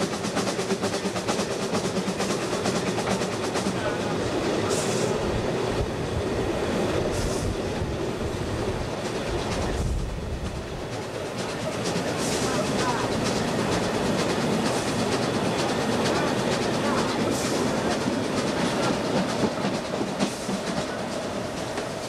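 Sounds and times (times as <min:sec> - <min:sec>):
steam hisses: 0:00.0 - 0:22.0
steam locomotive wheels and exhaust: 0:00.0 - 0:22.0.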